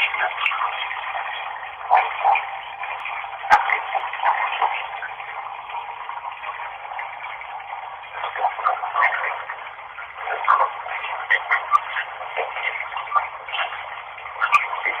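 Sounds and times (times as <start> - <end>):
running tap water: 0.0 - 15.0.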